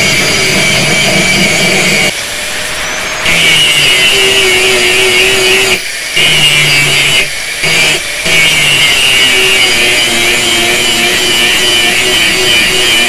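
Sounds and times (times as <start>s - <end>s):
angle grinder grinding steel: 0.0s - 13.0s.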